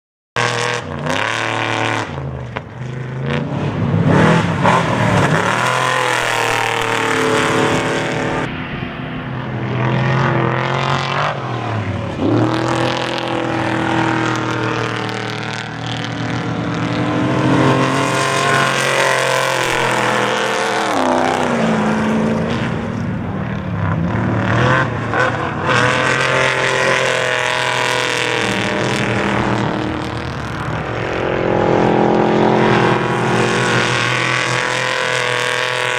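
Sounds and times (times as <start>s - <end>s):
truck engine revving: 0.4s - 35.9s.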